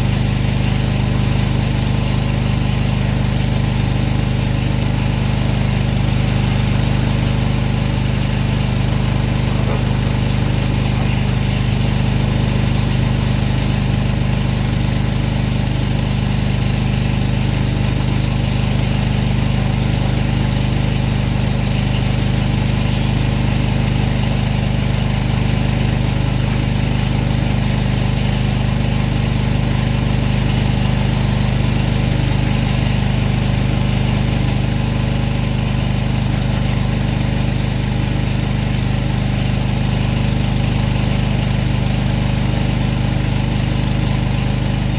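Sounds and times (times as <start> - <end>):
pressure washer engine running: 0.0 - 44.9.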